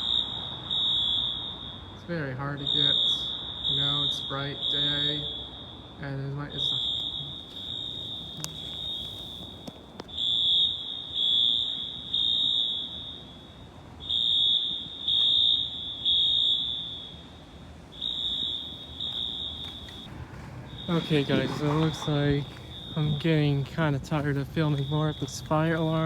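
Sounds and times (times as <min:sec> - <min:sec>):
fire alarm horns: 0:00.0 - 0:26.0.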